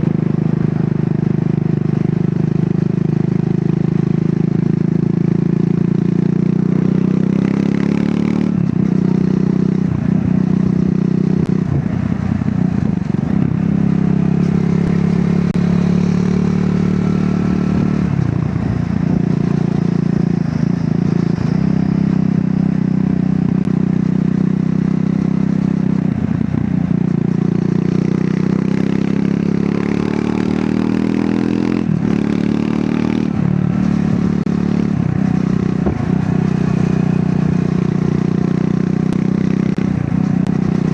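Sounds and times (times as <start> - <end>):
motorcycle engine riding: 0.0 - 40.9.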